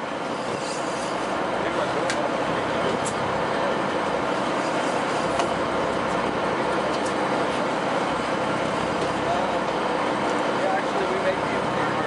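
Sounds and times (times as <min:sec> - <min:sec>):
boat engine running: 0:00.0 - 0:12.0
water along hull: 0:00.0 - 0:12.0.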